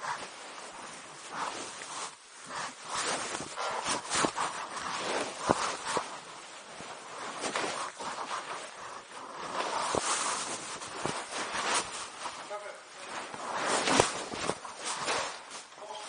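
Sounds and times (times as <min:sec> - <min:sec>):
rustling handling noise: 0:00.0 - 0:16.0.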